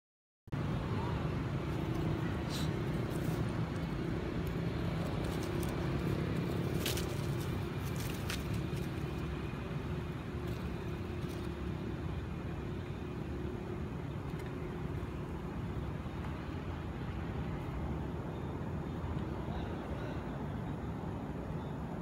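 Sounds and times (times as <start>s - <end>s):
low outdoor rumble: 0.5s - 22.0s
faint steady hum: 0.6s - 22.0s.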